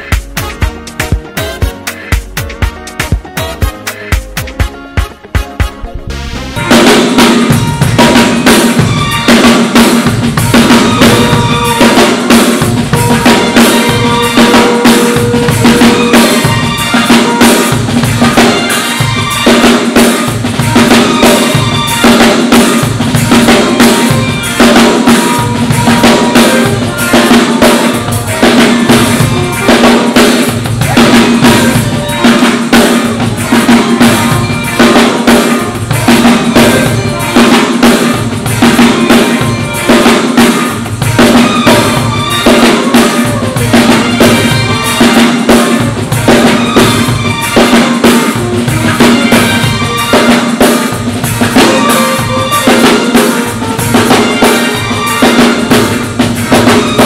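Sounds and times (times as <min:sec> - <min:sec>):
acoustic drum kit playing: 0:00.0 - 0:57.0.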